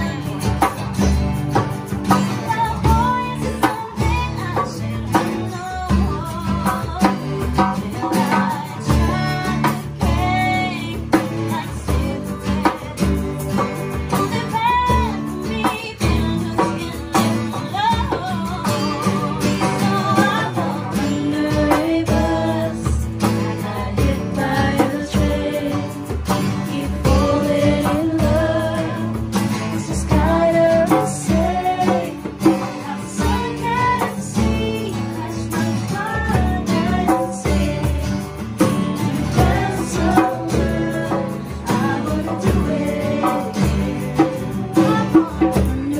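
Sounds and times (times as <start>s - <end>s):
acoustic guitars strumming: 0.0s - 45.9s
hand drum beat: 0.0s - 45.9s
women singing: 0.0s - 45.9s.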